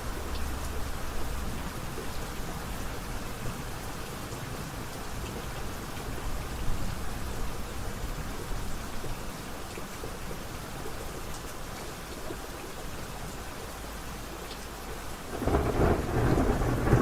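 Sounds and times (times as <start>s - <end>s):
rain pattering on a surface: 0.0s - 17.0s.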